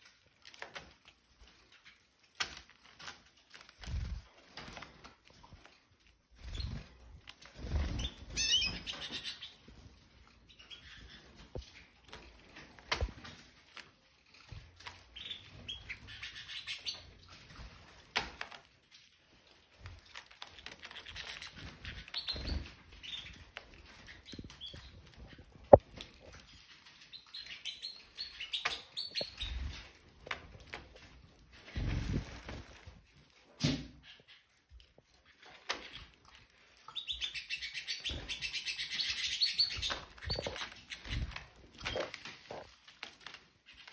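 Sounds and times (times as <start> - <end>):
canaries chirping: 6.3 - 18.2, 18.9 - 32.9, 34.0 - 43.9.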